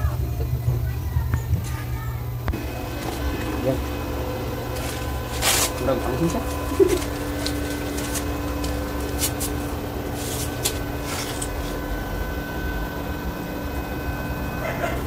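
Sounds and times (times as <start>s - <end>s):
cooling fan running: 0.0s - 15.0s
welder electrical hum: 0.0s - 15.0s.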